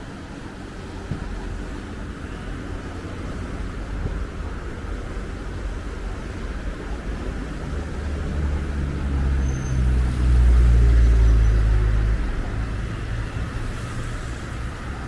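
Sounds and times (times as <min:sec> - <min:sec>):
traffic hiss: 0:00.0 - 0:15.0.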